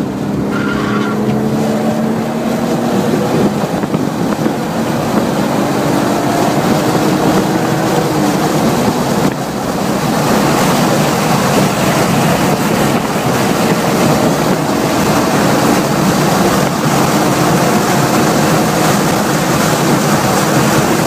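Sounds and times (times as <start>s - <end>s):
car engine accelerating: 0.0s - 21.0s
wind and road noise: 0.0s - 21.0s.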